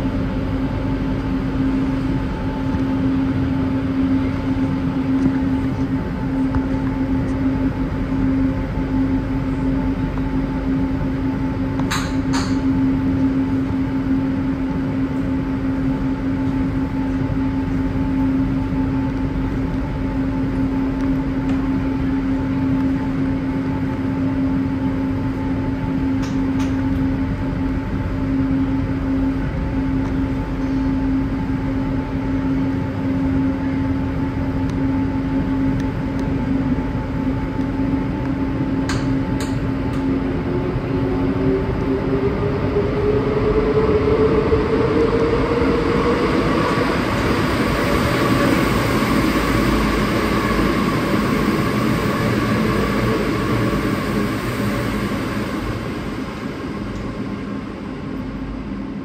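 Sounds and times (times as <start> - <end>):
metro car rumble and whine: 0.0 - 59.0.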